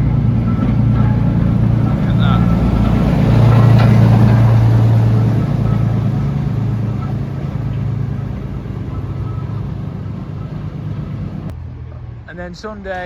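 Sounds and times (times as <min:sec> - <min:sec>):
locomotive engine drone: 0:00.0 - 0:12.3.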